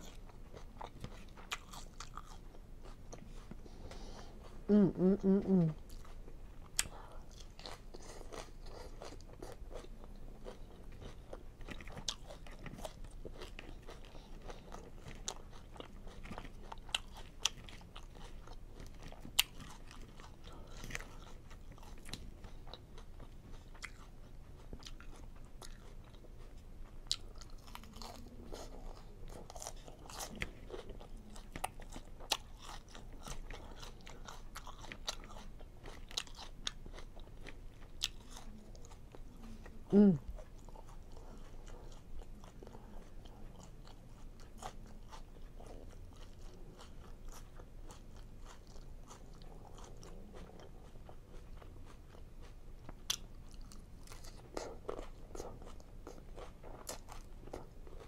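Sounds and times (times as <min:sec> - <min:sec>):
chewing and crunching salad: 0:00.0 - 0:58.0.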